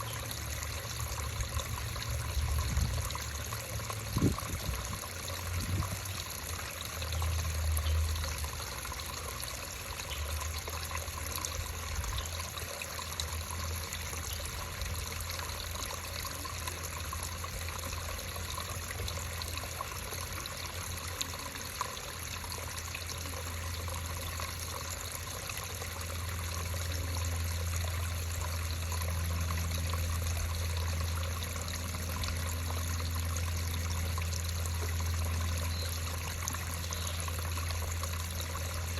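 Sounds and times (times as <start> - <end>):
creek water trickling: 0.0 - 38.9.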